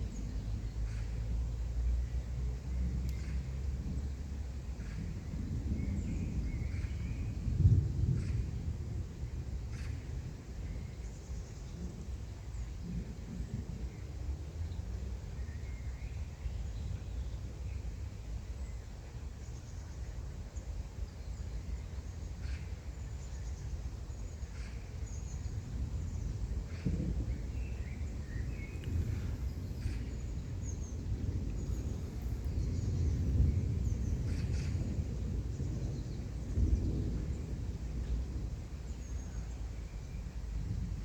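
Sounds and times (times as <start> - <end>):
distant thunder rumble: 0.0 - 18.6, 23.7 - 41.0.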